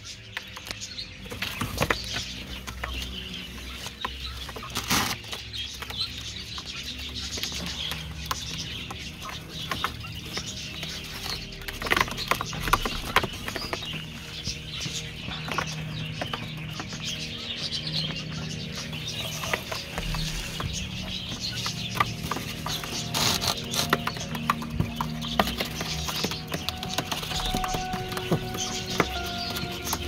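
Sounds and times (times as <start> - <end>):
chatter of aviary birds: 0.0 - 30.0
young quail chirping: 0.0 - 30.0.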